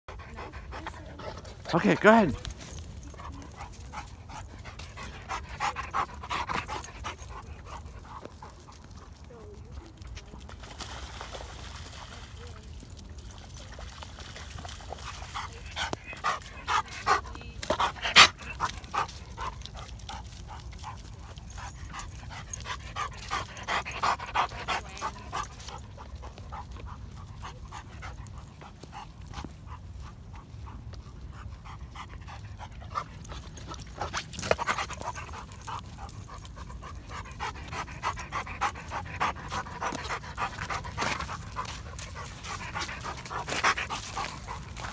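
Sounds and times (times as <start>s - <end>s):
dog panting: 0.1s - 10.1s, 14.5s - 44.9s.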